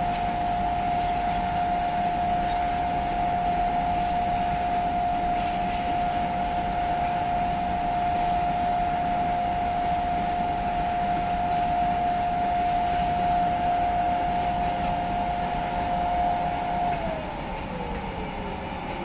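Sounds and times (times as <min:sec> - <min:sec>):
electric locomotive whining: 0:00.0 - 0:19.0
machinery hum: 0:00.0 - 0:19.0.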